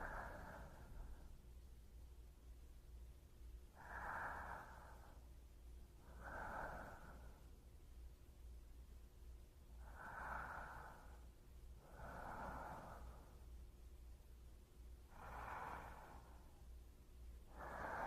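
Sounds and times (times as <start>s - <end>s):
soft human breaths: 0.0s - 18.0s.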